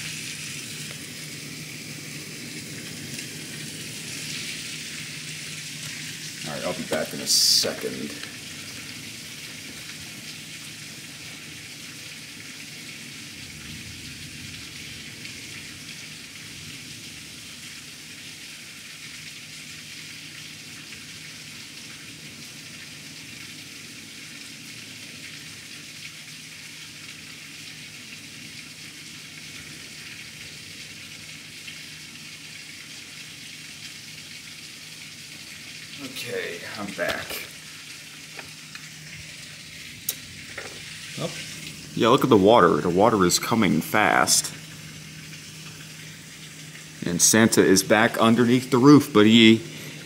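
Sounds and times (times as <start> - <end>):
heavy rain on pavement: 0.0 - 50.0.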